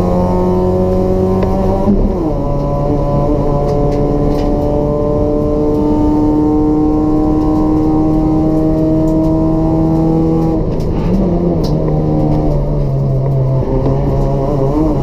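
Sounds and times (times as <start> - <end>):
race car engine running hard: 0.0 - 15.0.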